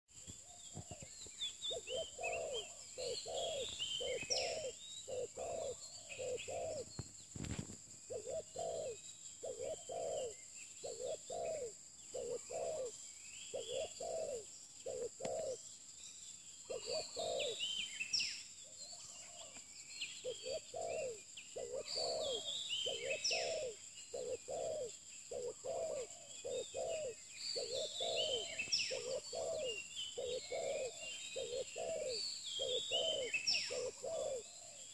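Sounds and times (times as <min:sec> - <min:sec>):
small birds chirping: 0:00.1 - 0:34.9
dove cooing: 0:00.3 - 0:07.0, 0:08.1 - 0:15.6, 0:16.7 - 0:17.7, 0:20.2 - 0:34.9.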